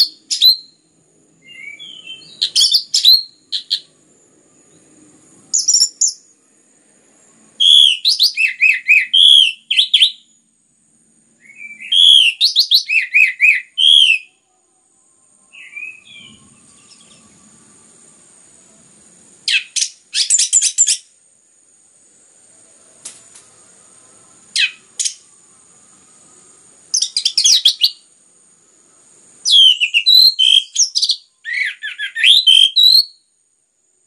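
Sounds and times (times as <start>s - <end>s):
thrush singing whistles and trills: 0.0s - 6.5s, 7.3s - 10.5s, 11.3s - 14.5s, 15.1s - 18.6s, 19.4s - 21.2s, 22.3s - 33.4s.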